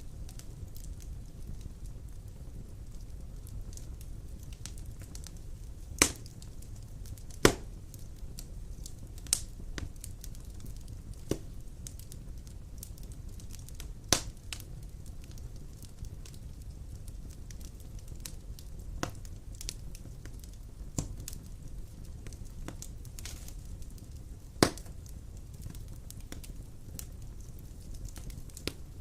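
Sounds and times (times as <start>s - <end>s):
fire crackling: 0.0s - 29.0s
logs burning in a fireplace: 0.0s - 29.0s
sharp pops of burning wood: 0.0s - 29.0s.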